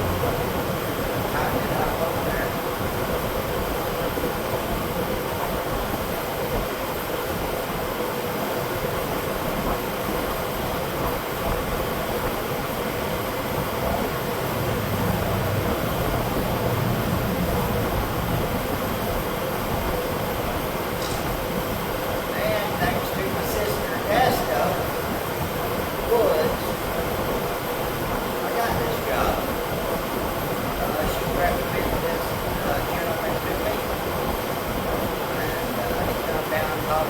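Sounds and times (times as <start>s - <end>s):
large fan blowing and humming: 0.0s - 37.0s.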